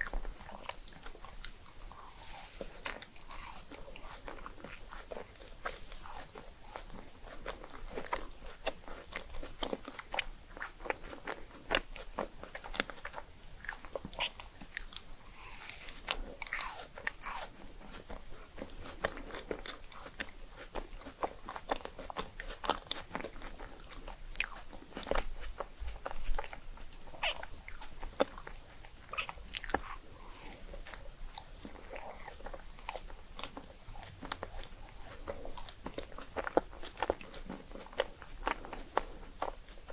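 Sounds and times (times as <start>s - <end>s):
crunching and chewing rice cakes: 0.0s - 39.9s.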